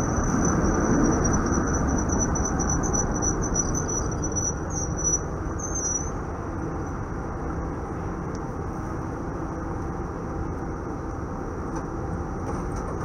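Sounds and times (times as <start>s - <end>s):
high-pitched whine: 0.0s - 12.6s
streetcar wheels rumbling on rails: 0.0s - 13.0s.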